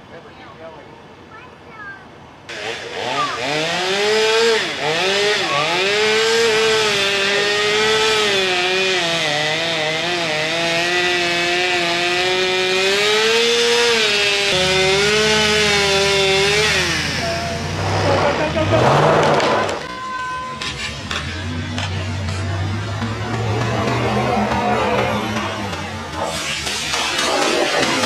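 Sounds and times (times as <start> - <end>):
chainsaw cutting tree trunk: 2.5 - 19.9, 22.8 - 28.0
truck engine running: 2.5 - 28.0.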